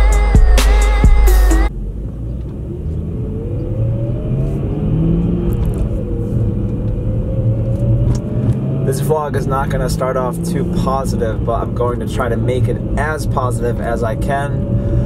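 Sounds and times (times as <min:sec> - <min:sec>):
car engine: 0:01.5 - 0:15.0
road rumble: 0:01.7 - 0:15.0.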